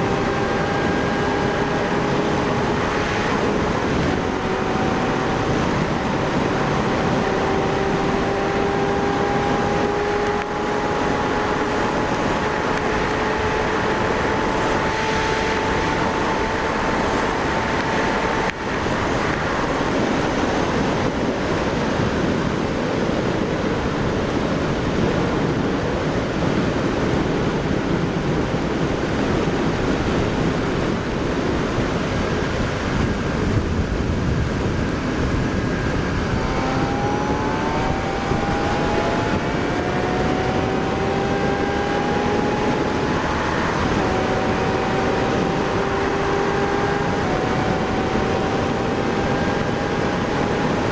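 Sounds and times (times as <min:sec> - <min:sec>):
motorcycle engine at speed: 0:00.0 - 0:50.9
wind rush on microphone: 0:00.0 - 0:50.9.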